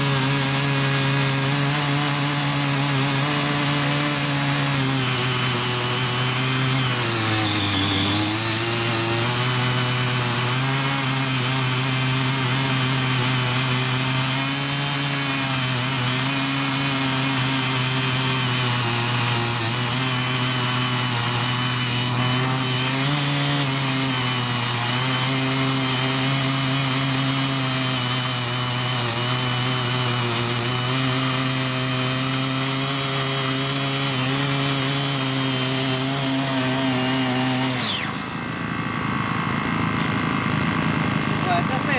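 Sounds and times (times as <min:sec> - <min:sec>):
tiller petrol engine running: 0:00.0 - 0:41.9.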